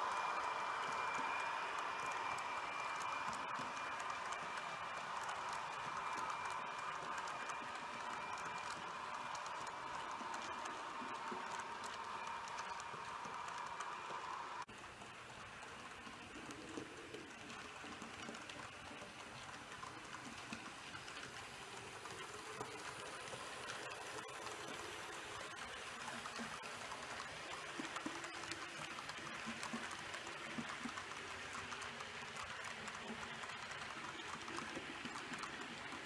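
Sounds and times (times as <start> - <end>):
model train rolling on track: 0.0 - 36.0.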